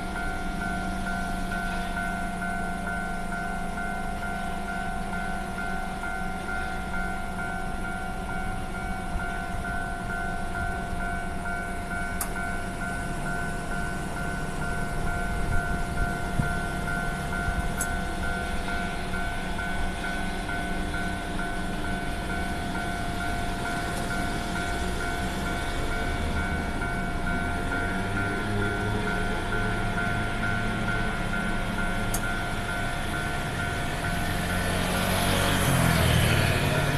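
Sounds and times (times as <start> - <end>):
level crossing electronic bell: 0.0 - 36.9.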